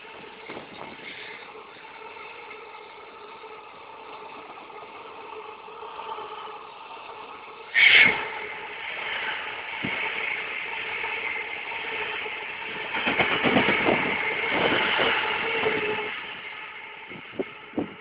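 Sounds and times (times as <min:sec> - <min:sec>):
freight train rolling by: 0:00.0 - 0:18.0
wheel clatter: 0:00.0 - 0:18.0.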